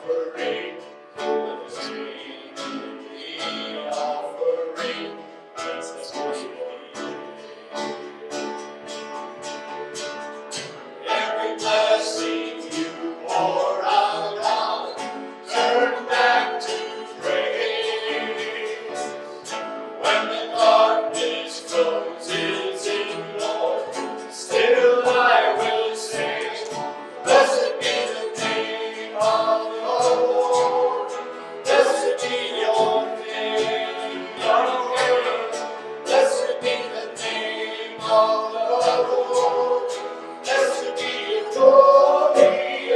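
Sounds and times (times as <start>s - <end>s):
strummed acoustic guitar: 0.0s - 42.9s
voices singing: 0.0s - 42.9s.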